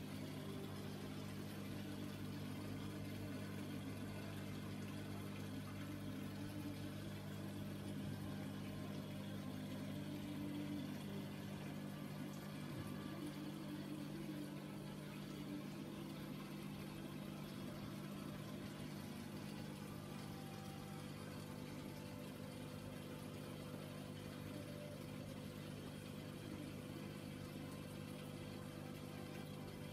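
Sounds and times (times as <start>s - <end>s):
aquarium pump humming: 0.0s - 29.9s.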